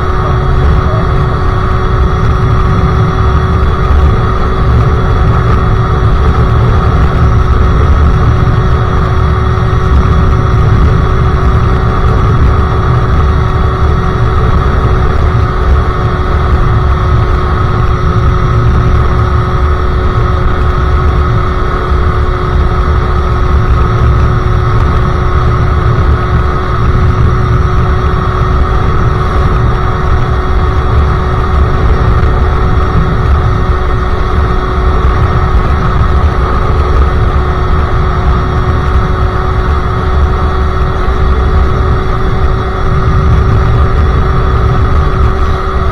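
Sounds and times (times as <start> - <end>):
motorcycle engine running: 0.0 - 45.9
wind rumble on microphone: 0.0 - 45.9.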